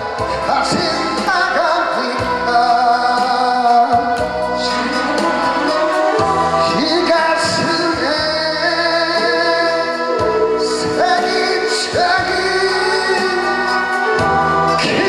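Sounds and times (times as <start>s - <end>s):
instrumental backing music: 0.0s - 15.0s
man singing into microphone: 0.0s - 15.0s.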